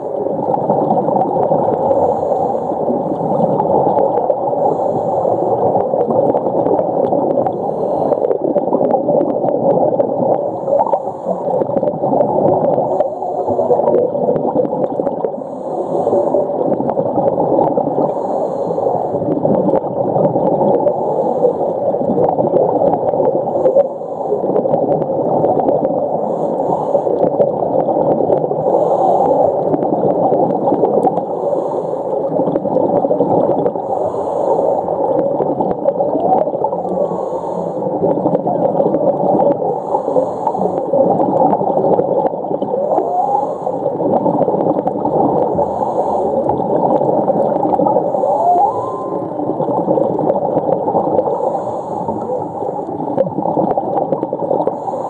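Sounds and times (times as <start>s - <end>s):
underwater gurgling and bubbling: 0.0s - 55.0s.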